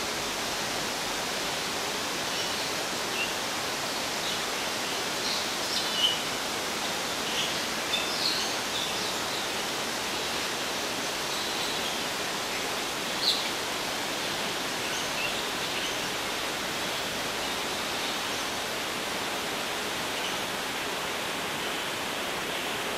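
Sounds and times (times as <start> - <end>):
steady rushing hiss: 0.0 - 22.9.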